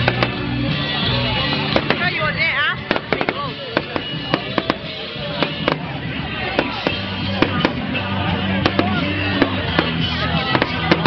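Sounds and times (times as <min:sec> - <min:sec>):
crowd voices: 0:00.0 - 0:11.0
fireworks bangs and crackles: 0:00.0 - 0:11.0
music: 0:00.0 - 0:11.0.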